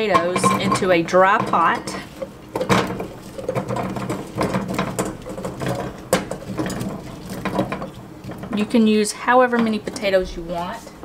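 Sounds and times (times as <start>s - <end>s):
potatoes clattering into metal pot: 0.0s - 10.5s.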